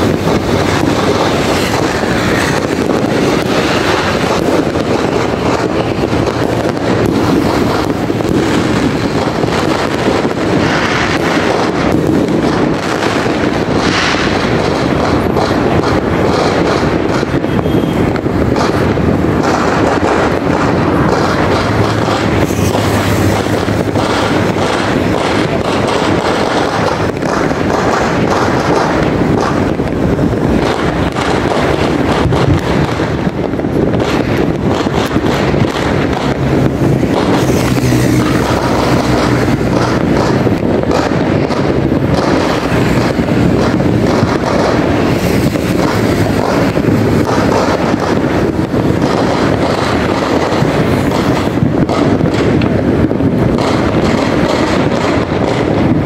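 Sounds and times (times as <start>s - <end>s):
distant firecrackers crackling: 0.0s - 56.0s.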